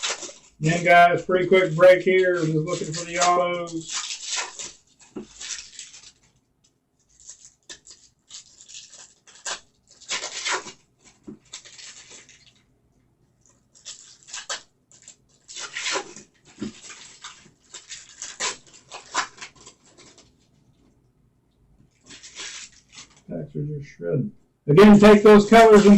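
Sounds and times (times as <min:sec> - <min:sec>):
foil wrappers crinkling: 0:00.0 - 0:06.4, 0:07.0 - 0:12.8, 0:13.4 - 0:20.9, 0:21.9 - 0:23.3, 0:24.8 - 0:25.9.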